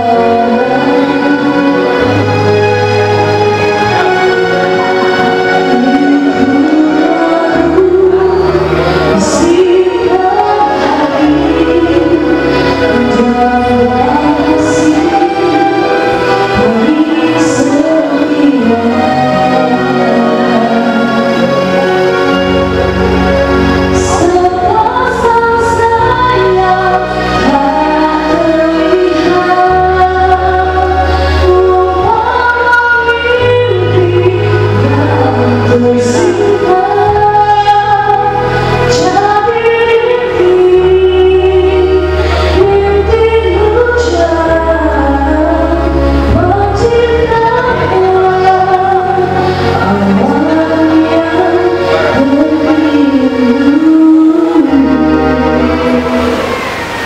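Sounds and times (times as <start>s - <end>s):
backing track music: 0.0s - 57.0s
instrumental accompaniment: 0.0s - 57.0s
steady bass line: 0.0s - 57.0s
woman singing into microphone: 0.0s - 57.0s.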